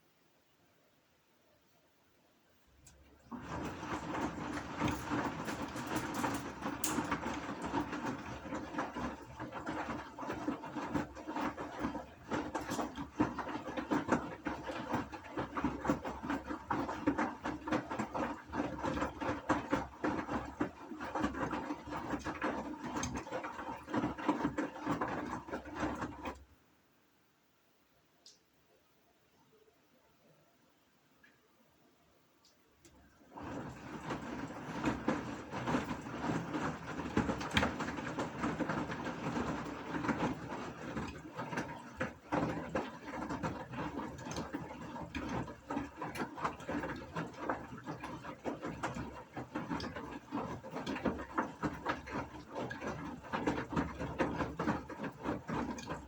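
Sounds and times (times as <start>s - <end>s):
washing machine rattling: 3.2s - 26.4s, 33.2s - 56.0s.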